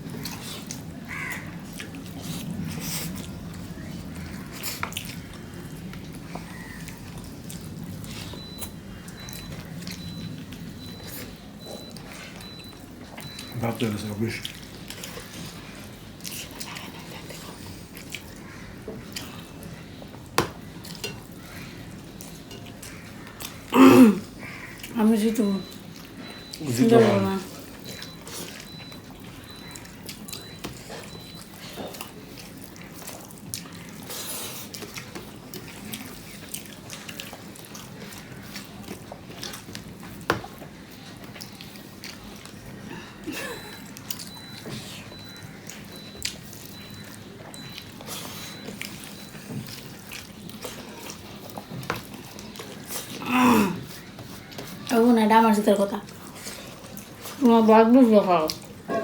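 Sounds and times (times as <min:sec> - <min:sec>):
wet squishing and chewing: 0:00.0 - 0:59.0.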